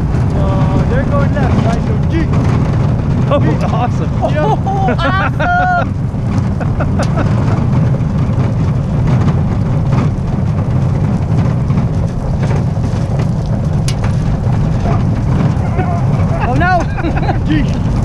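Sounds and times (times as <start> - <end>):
crunching stones: 0.0 - 18.0
wheels rumbling on gravel: 0.0 - 18.0.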